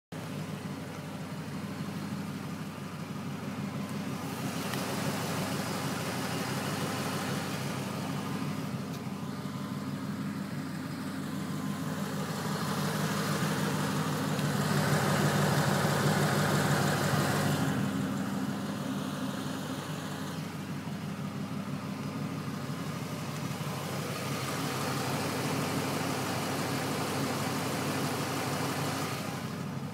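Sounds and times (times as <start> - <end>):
car engine running: 0.1 - 29.9.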